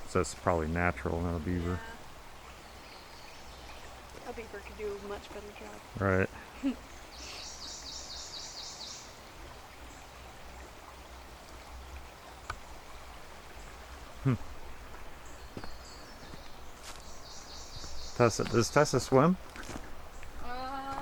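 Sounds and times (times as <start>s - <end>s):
low rumble and hiss: 0.0s - 19.4s.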